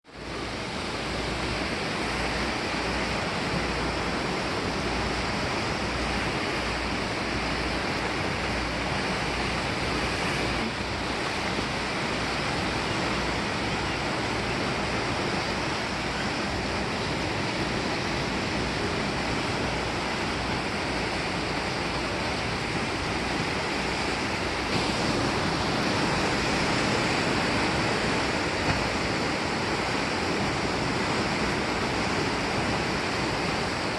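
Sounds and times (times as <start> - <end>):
waves breaking: 0.1 - 33.9
wind rumbling on microphone: 0.1 - 33.9.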